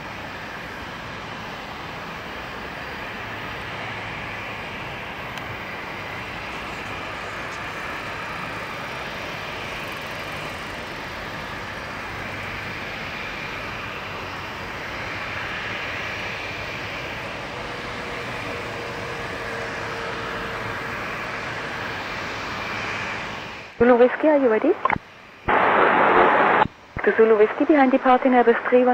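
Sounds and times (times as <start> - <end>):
jet engines taxiing: 0.0 - 28.9.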